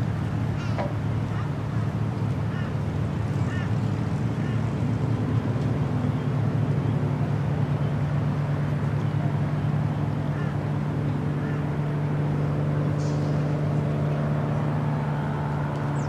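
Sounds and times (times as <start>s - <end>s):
low engine-like drone: 0.0s - 16.0s.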